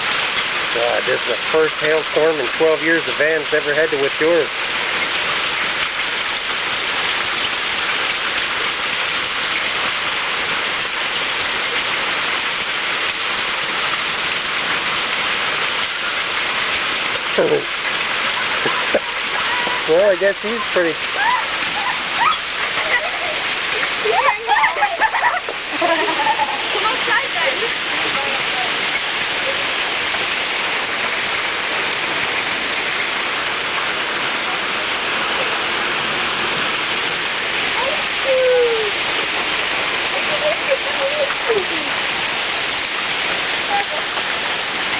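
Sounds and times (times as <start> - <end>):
hail and rain pelting down: 0.0 - 44.9.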